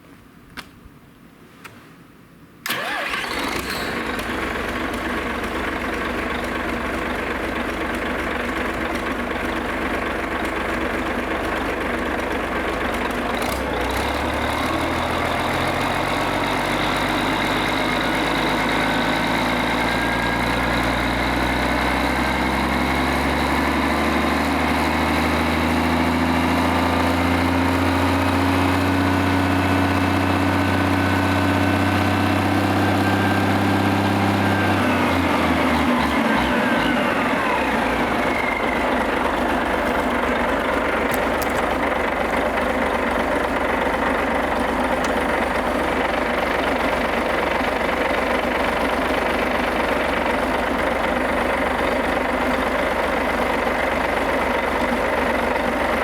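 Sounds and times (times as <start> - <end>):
marine diesel engine starting and running: 2.6 - 56.0.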